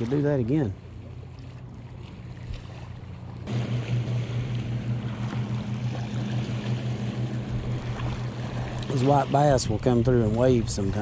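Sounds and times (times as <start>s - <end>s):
low engine drone: 0.0s - 11.0s
small waves washing against bank: 0.0s - 11.0s.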